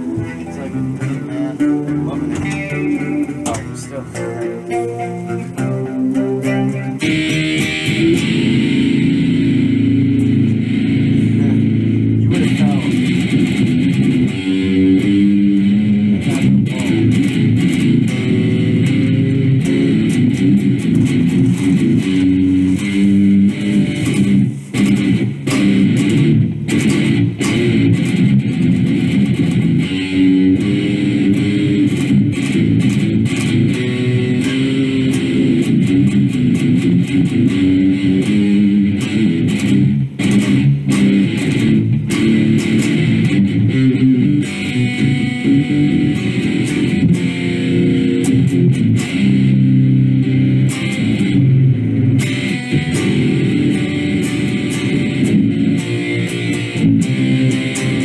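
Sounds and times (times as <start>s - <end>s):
electric guitar riff: 0.0s - 58.0s.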